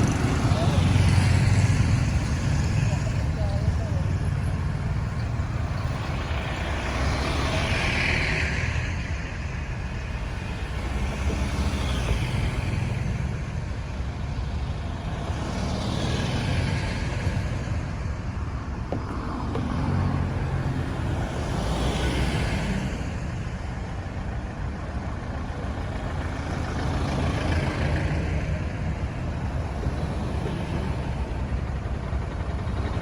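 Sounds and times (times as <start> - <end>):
traffic rumble: 0.0 - 33.0
vehicles passing by: 0.0 - 33.0.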